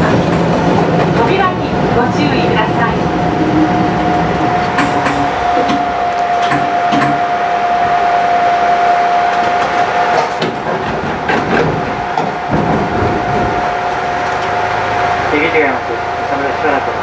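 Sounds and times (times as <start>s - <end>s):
high whine of train equipment: 0.0s - 17.0s.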